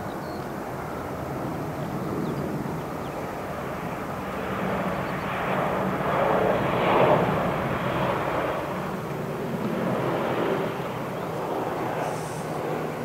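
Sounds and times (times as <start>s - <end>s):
jet engines of rolling airliner: 0.0s - 13.0s.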